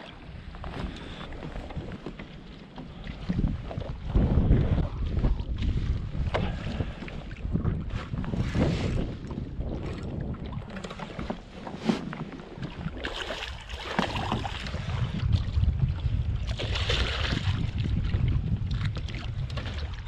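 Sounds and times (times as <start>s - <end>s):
water around kayak: 0.0s - 20.0s
wind rumbling on microphone: 0.0s - 20.0s.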